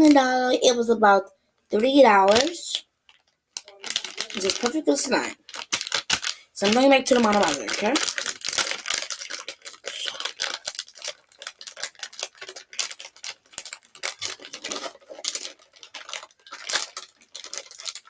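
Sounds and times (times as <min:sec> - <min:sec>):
plastic packaging crinkling and tearing: 0:01.7 - 0:18.0.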